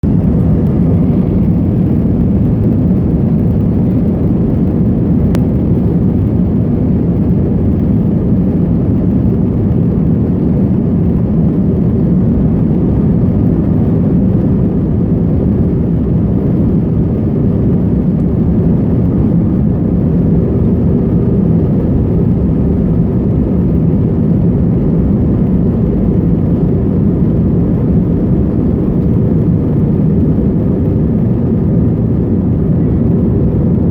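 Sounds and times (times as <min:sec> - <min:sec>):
jet engines running: 0:00.0 - 0:33.9.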